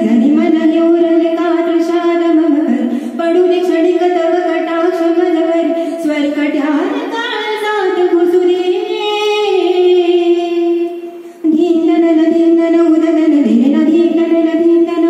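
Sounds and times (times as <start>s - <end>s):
woman singing classical melody: 0.0s - 15.0s.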